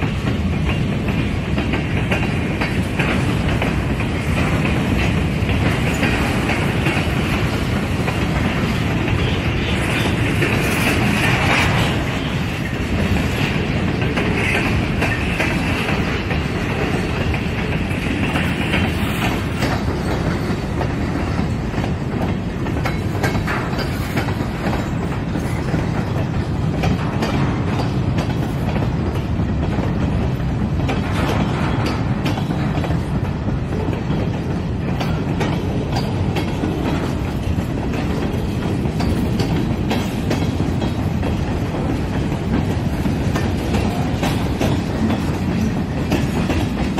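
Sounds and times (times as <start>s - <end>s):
train wheels rumbling on rail: 0.0s - 46.9s
wheels clacking over rail joints: 0.0s - 46.9s.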